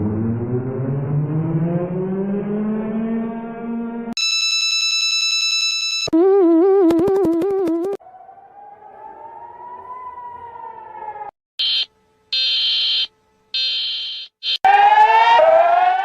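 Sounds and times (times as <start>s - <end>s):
siren rising and falling: 0.0s - 16.0s.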